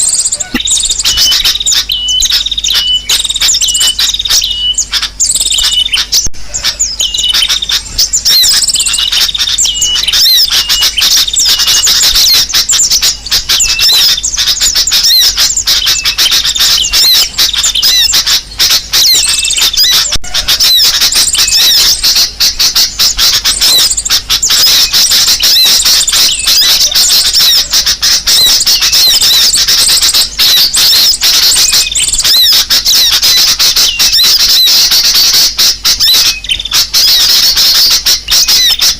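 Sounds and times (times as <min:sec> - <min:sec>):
high-pitched bird chirps: 0:00.0 - 0:38.9.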